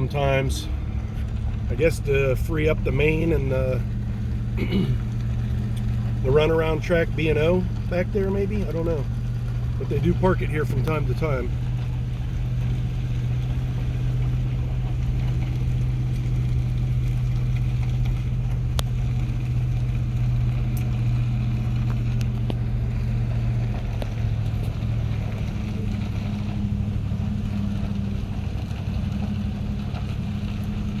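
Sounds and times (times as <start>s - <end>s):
diesel locomotive idling: 0.0s - 31.0s.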